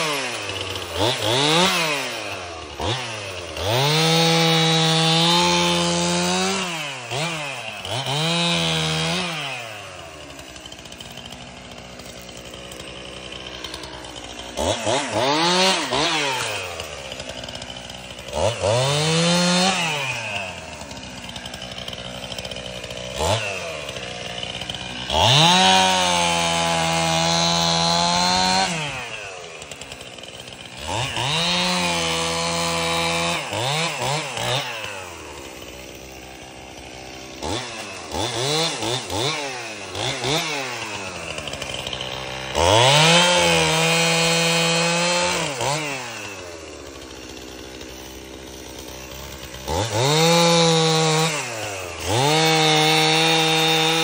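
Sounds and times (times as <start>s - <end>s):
chainsaw revving and idling: 0.0s - 54.0s.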